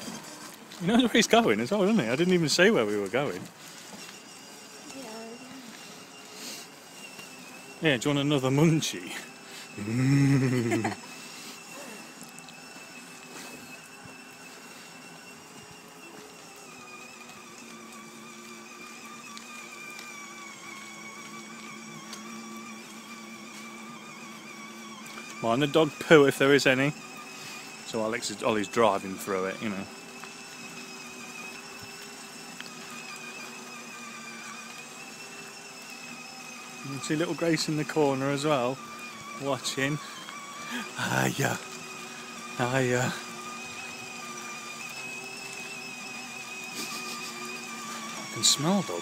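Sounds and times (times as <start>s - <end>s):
toy car electric motor whining: 0.0s - 49.0s.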